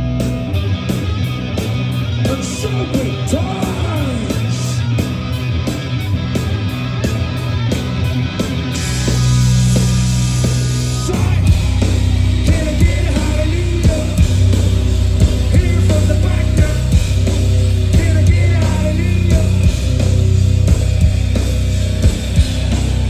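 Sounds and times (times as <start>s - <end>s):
live punk rock band: 0.0s - 23.0s.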